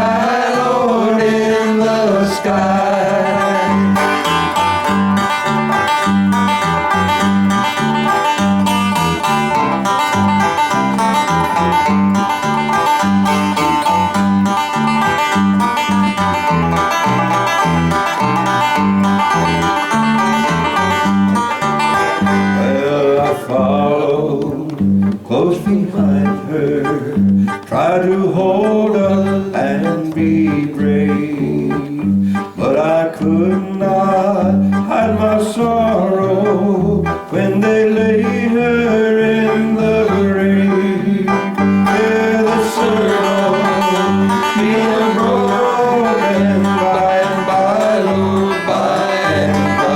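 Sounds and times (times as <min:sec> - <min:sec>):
bluegrass banjo and guitar music: 0:00.0 - 0:49.9.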